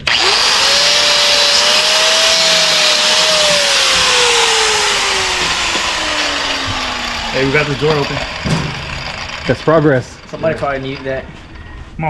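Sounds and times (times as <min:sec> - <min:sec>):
cutoff wheel grinding metal: 0:00.0 - 0:11.9.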